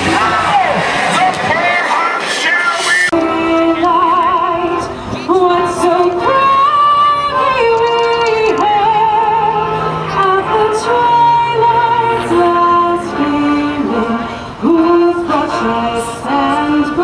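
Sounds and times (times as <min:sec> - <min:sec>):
musical accompaniment: 0:00.0 - 0:17.0
solo singer with vibrato: 0:03.1 - 0:17.0.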